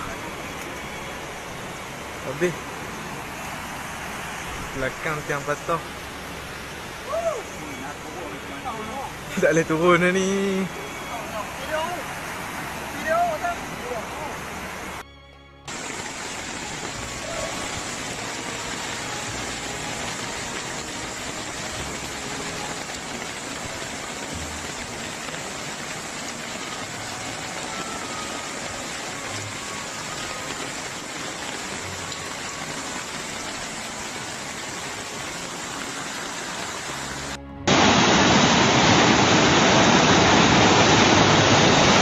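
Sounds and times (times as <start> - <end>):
heavy rain: 0.0 - 15.0, 15.7 - 42.0
floodwater rushing down street: 0.0 - 15.1, 15.7 - 42.0.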